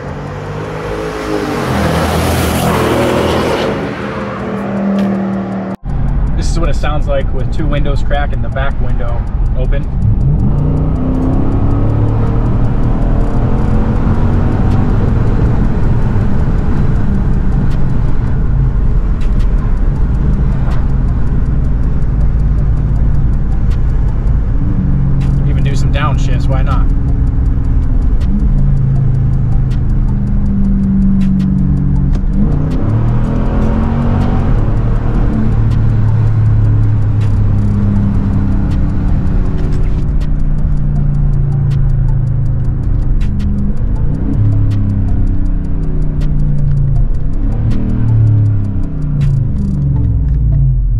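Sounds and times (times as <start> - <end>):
road noise: 0.0 - 50.9
truck exhaust accelerating and cruising: 0.0 - 50.9.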